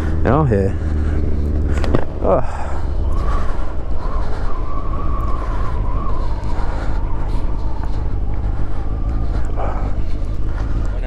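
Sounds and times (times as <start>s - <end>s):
motorcycle engine low rumble: 0.0s - 11.0s.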